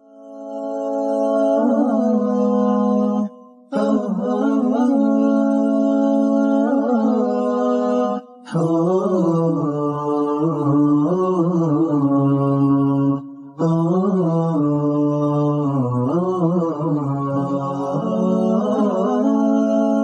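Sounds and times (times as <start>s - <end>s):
voice singing long notes: 0.0s - 20.0s.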